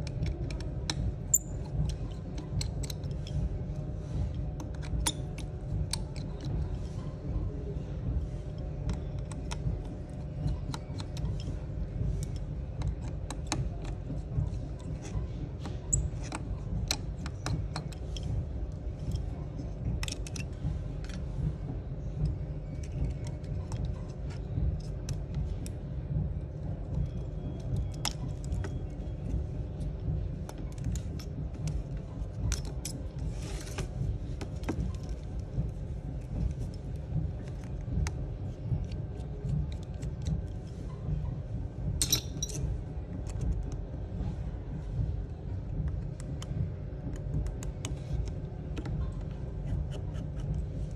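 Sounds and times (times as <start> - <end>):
steady low rumble: 0.0 - 50.9.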